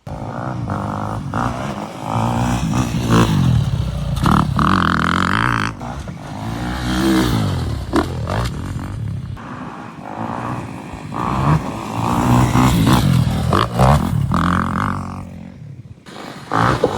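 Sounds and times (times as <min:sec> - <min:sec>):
quad engine revving: 0:00.0 - 0:16.9.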